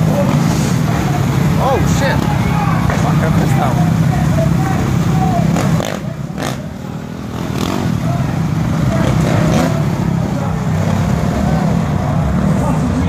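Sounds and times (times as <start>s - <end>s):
dirt bike engine revving: 0.0s - 13.0s
distant voice: 0.0s - 13.0s.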